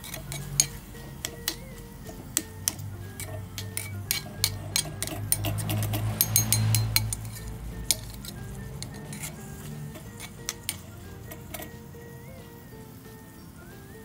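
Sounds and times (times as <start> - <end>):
metal spatula clinking in wok: 0.0 - 11.8.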